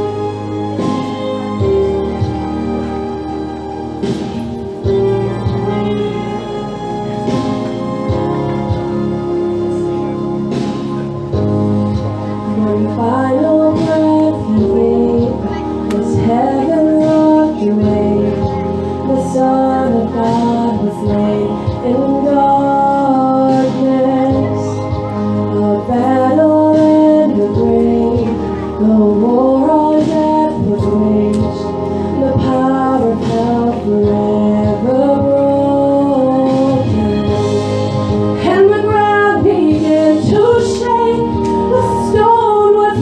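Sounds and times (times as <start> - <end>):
instrumental accompaniment: 0.0 - 43.0.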